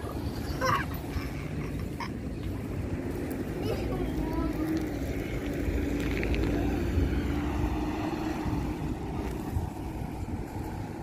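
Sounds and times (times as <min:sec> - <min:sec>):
low outdoor rumble: 0:00.0 - 0:11.0
vehicle engine hum: 0:00.0 - 0:11.0.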